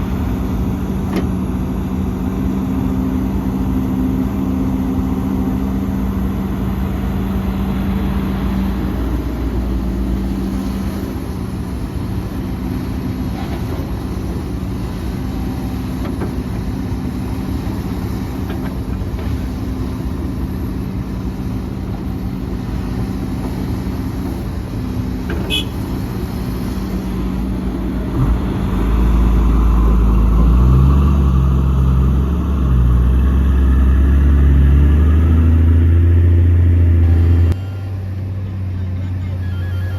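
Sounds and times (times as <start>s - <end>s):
deep loud engine: 0.0s - 39.9s
diesel machinery engines running: 0.0s - 39.9s.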